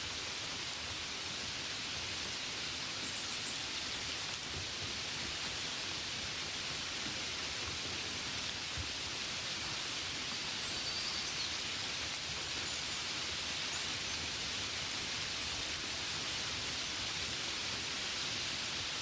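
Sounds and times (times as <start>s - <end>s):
gentle rain: 0.0s - 19.0s.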